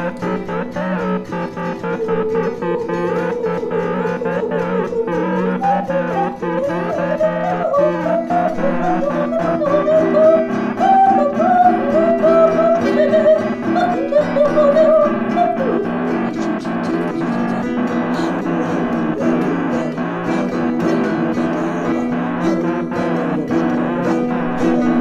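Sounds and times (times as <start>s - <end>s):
strummed balalaika: 0.0s - 25.0s
woman singing folk song: 2.2s - 25.0s.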